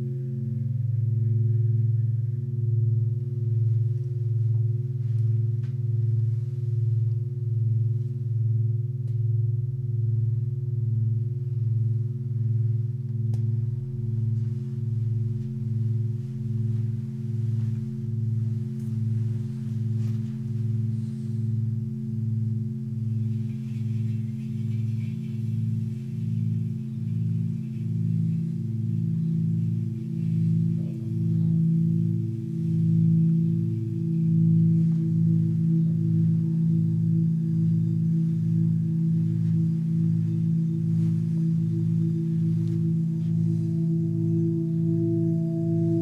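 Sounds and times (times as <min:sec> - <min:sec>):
pulsing ringing drone: 0:00.0 - 0:46.0.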